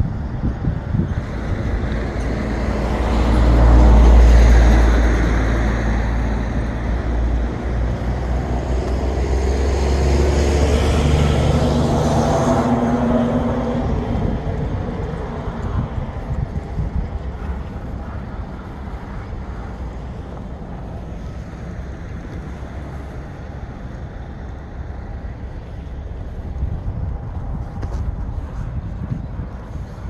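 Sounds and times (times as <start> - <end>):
passing motor traffic rumble: 0.0 - 30.0.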